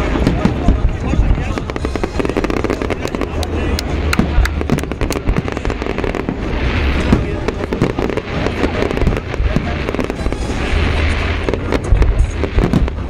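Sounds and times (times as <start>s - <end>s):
fireworks bangs and cracks: 0.0s - 13.0s
hissing crackle: 0.0s - 13.0s
low rumbling booms: 0.0s - 13.0s.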